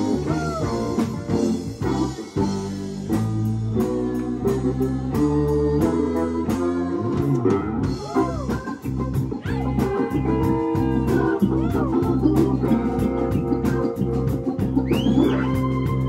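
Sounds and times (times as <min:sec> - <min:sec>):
electric guitar bending notes: 0:00.0 - 0:16.0
rock band playing: 0:00.0 - 0:16.0.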